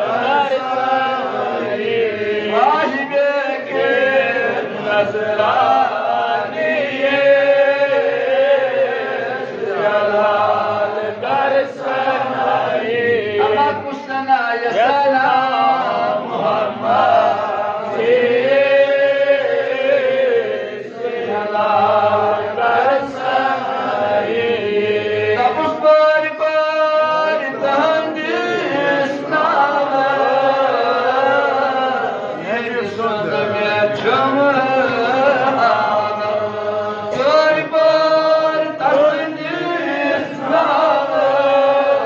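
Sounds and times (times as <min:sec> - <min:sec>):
man chanting through microphone: 0:00.0 - 0:42.0.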